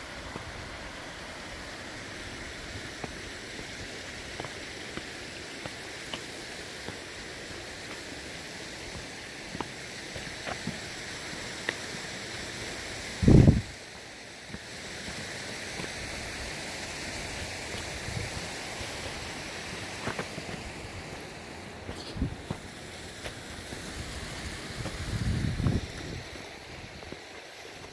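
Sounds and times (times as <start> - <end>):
mountain stream rushing: 0.0 - 27.9
footsteps on stony path: 2.4 - 12.5, 14.5 - 27.9.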